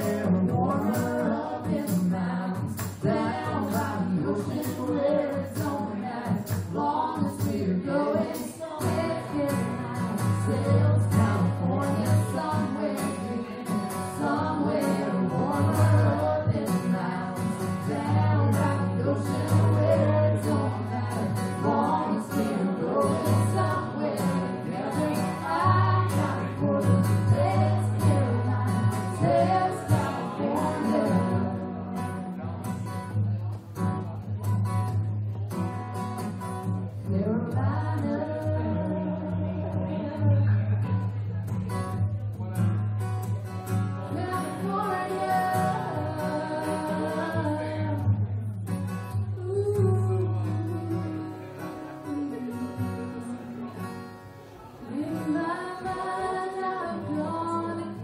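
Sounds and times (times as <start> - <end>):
man and woman singing: 0.0 - 32.3, 37.0 - 40.7, 44.1 - 48.2, 49.4 - 54.1, 54.8 - 58.0
acoustic guitar strumming: 0.0 - 58.0.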